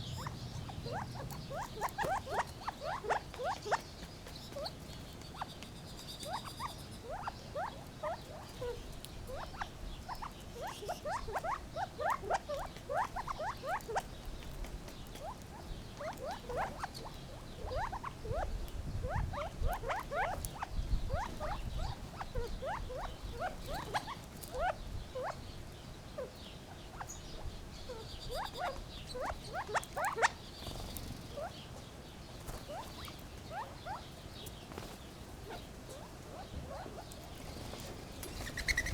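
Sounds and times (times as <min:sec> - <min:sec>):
quail squeaky chirping calls: 0:00.0 - 0:25.4, 0:26.2 - 0:31.6, 0:32.4 - 0:38.9.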